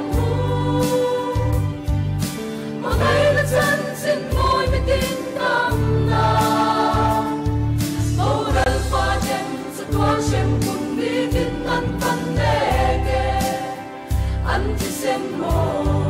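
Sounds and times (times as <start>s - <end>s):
mixed choir singing a hymn: 0.0s - 16.0s.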